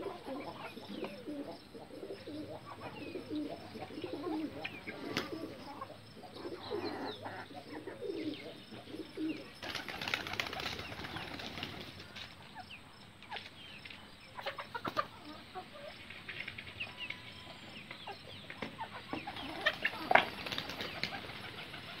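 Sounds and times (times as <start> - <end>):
birds pecking and scratching: 0.0 - 22.0.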